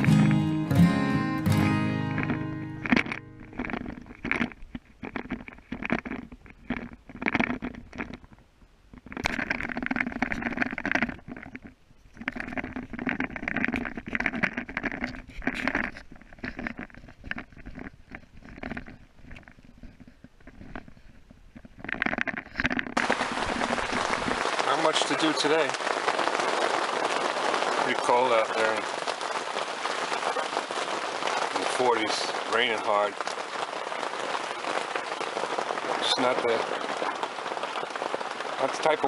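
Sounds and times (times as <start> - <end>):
hard rain on canvas tent: 0.0 - 39.0
wind: 0.0 - 39.0.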